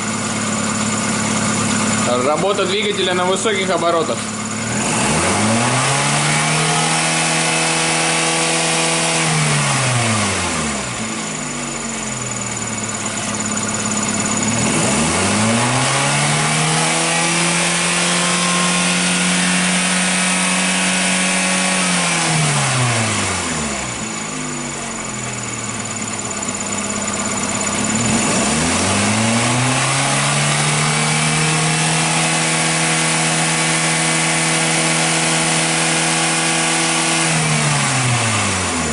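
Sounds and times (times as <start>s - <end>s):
car engine revving and idling: 0.0s - 38.9s.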